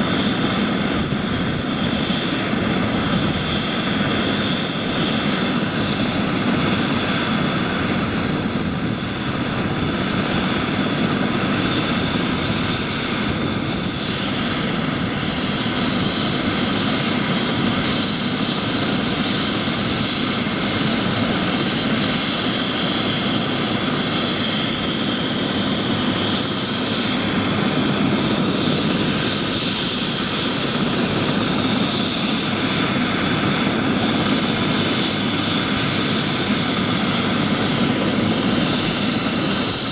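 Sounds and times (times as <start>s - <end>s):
helicopter running: 0.0s - 39.9s
high-pitched turbine whine: 0.0s - 39.9s.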